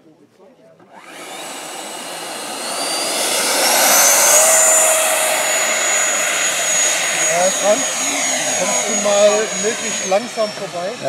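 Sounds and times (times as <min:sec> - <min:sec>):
electric ducted fans whining: 0:01.0 - 0:11.0.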